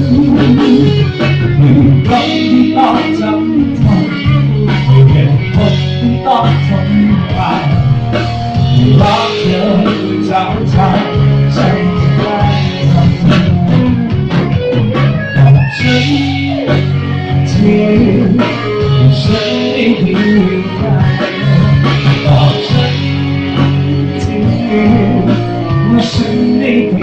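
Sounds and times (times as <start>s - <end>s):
drum kit groove: 0.0s - 27.0s
electric bass guitar: 0.0s - 27.0s
electric guitar: 0.0s - 27.0s.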